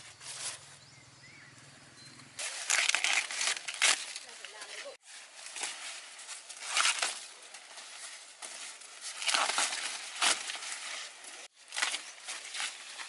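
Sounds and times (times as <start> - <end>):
rustling and crinkling handling: 2.4 - 13.0.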